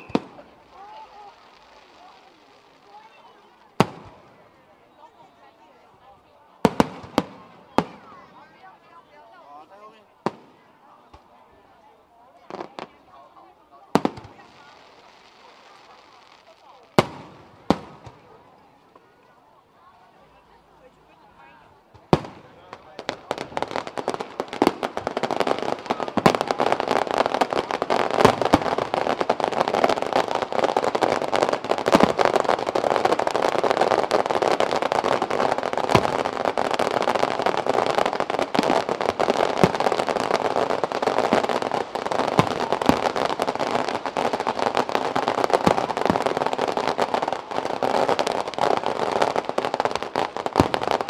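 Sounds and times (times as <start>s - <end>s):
fireworks bangs: 0.0s - 5.1s, 6.6s - 8.8s, 10.2s - 11.4s, 12.4s - 19.1s, 21.9s - 51.0s
fireworks crackling: 0.0s - 51.0s.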